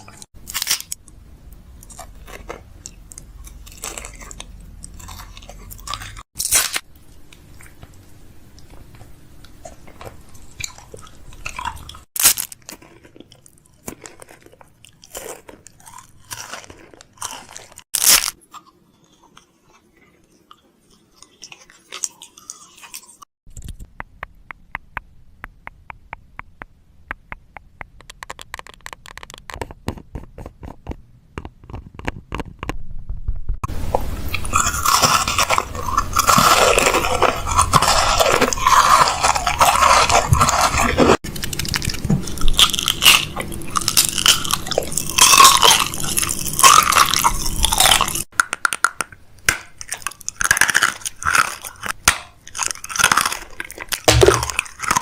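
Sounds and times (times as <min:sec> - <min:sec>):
chewing and crunching: 0:00.0 - 0:25.0, 0:34.3 - 0:55.0.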